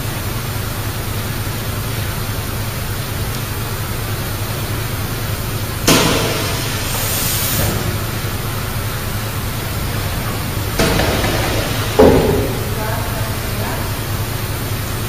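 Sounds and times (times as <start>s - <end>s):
factory machinery hum and hiss: 0.0s - 15.0s.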